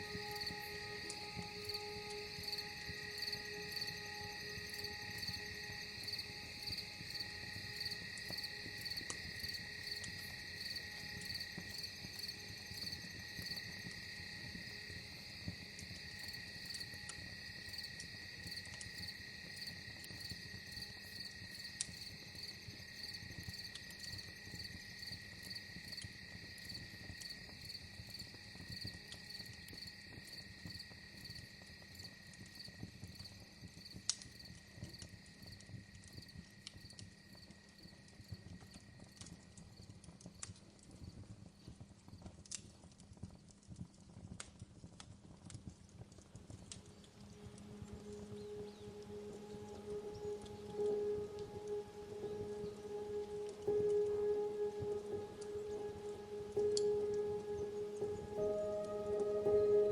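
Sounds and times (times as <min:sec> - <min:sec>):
wood fire crackling: 0:00.0 - 0:30.5, 0:35.4 - 0:59.9
crickets chirping: 0:00.0 - 0:40.0, 0:46.8 - 0:59.9.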